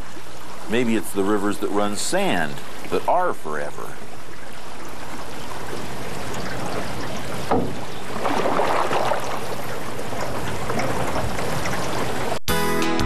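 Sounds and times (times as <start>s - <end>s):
flowing river water: 0.0s - 12.4s
water splashing: 0.0s - 12.4s.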